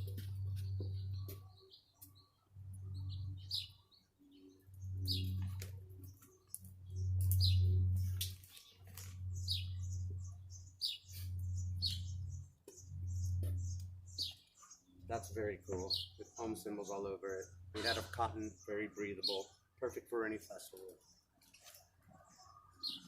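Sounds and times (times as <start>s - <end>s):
low hum: 0.0s - 18.6s
bird chirping: 0.0s - 23.0s.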